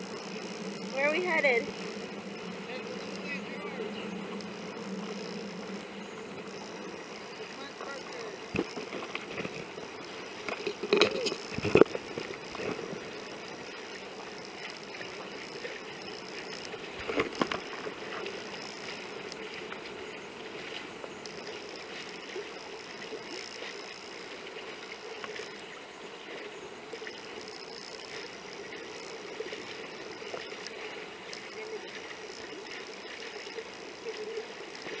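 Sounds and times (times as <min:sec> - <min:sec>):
muffled rush of water and wind: 0:00.0 - 0:35.0.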